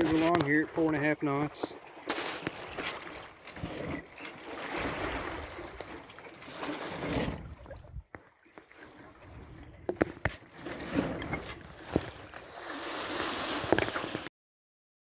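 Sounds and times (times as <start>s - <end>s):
water rushing along a hull: 0.0s - 14.3s.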